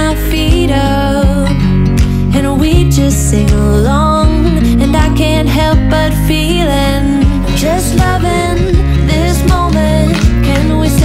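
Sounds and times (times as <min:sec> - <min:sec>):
song with singing voice: 0:00.0 - 0:11.0.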